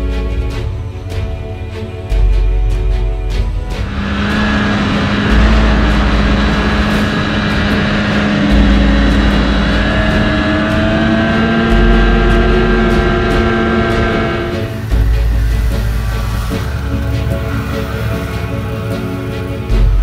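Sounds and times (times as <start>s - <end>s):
snowmobile engine running: 3.4s - 20.0s
deep bass tone: 3.5s - 20.0s.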